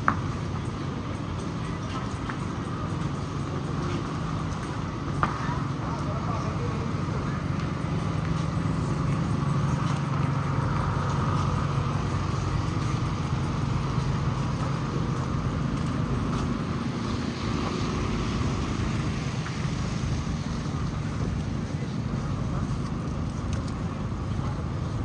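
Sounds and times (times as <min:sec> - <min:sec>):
road traffic noise: 0:00.0 - 0:25.0
vehicle engine humming: 0:00.0 - 0:25.0.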